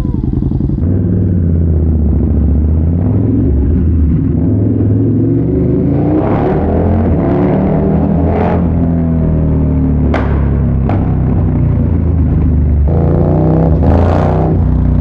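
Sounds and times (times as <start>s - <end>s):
motorcycle engine running: 0.0s - 5.9s, 8.6s - 15.0s.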